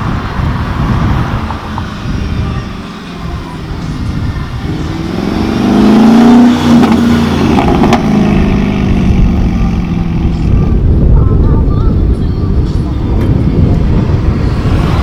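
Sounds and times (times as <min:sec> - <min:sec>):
car engine accelerating hard: 0:00.0 - 0:10.9, 0:13.1 - 0:15.0.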